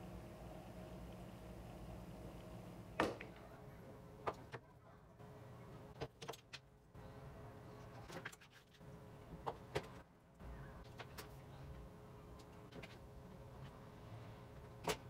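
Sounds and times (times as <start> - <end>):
faint steady hum: 0.0 - 6.0, 8.8 - 15.0.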